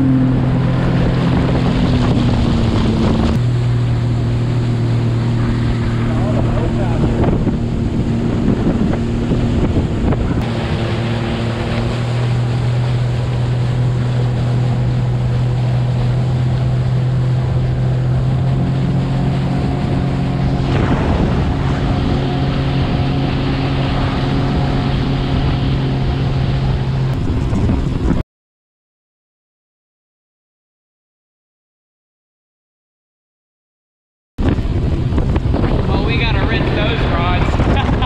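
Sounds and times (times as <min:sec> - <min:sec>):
jet ski engine hum: 0:00.0 - 0:28.2, 0:34.4 - 0:38.0
wind on microphone: 0:00.0 - 0:28.2, 0:34.4 - 0:38.0.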